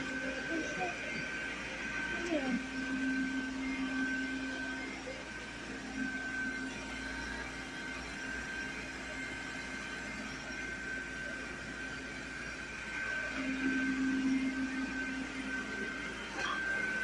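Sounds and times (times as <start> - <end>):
robot vacuum whining and humming: 0.0 - 17.0.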